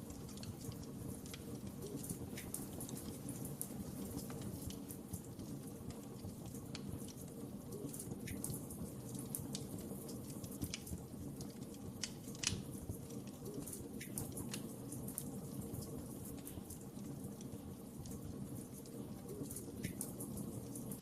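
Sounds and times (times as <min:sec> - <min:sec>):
low rumble of burning: 0:00.0 - 0:21.0
wood fire pops and snaps: 0:00.0 - 0:21.0.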